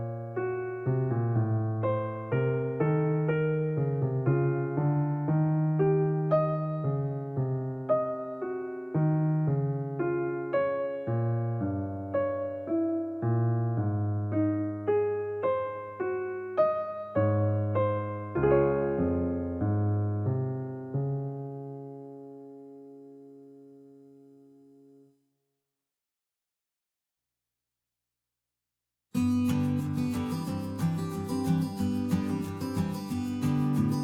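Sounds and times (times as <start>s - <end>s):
electric piano slow melody: 0.0s - 25.1s, 29.2s - 34.0s.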